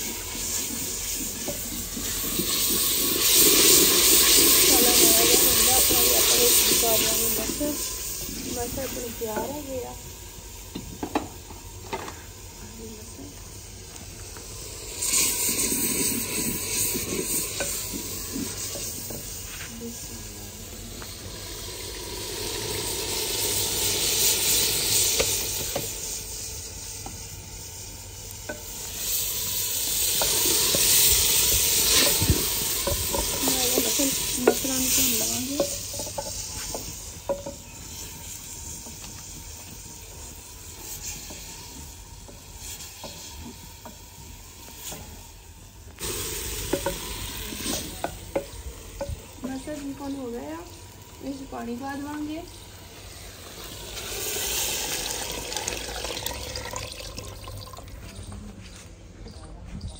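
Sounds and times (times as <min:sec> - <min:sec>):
lentils sizzling in a pot: 0:00.0 - 0:58.3.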